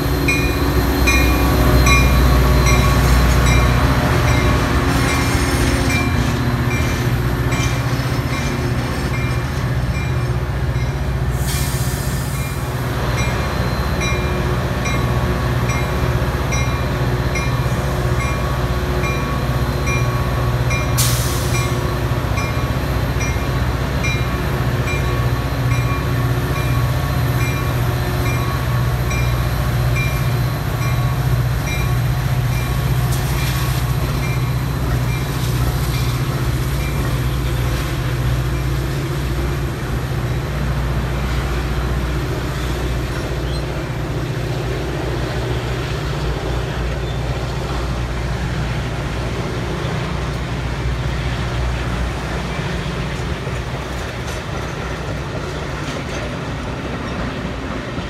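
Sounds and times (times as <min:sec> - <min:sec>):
diesel locomotive engine drumming: 0:00.0 - 0:58.0
train cars rumbling: 0:00.0 - 0:58.0.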